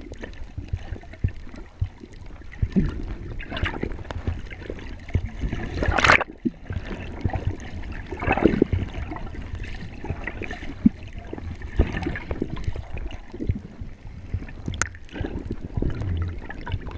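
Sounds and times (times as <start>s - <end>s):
muffled underwater water sloshing: 0.0s - 16.9s.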